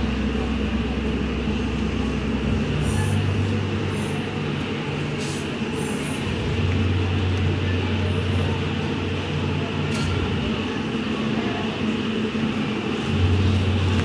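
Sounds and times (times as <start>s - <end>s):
road noise: 0.0s - 14.0s
vehicle engine hum: 0.0s - 14.0s.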